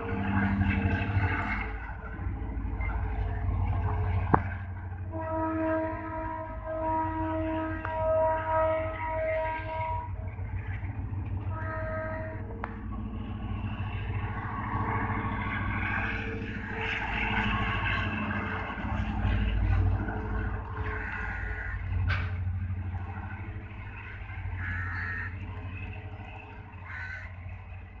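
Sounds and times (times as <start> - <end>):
train rumble with wheel-on-rail noise: 0.0 - 28.0.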